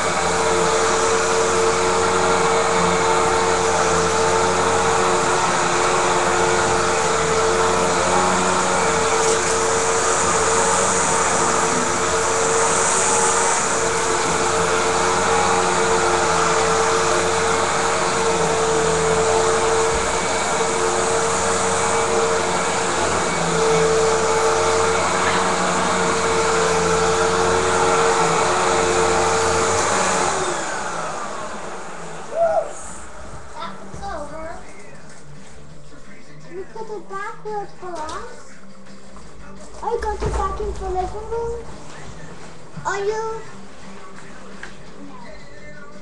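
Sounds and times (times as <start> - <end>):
vacuum cleaner running: 0.0 - 46.0.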